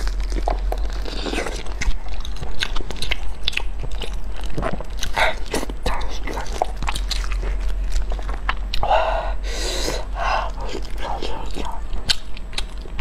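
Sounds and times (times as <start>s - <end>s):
low hum: 0.0s - 13.0s
person chewing meat: 0.0s - 13.0s.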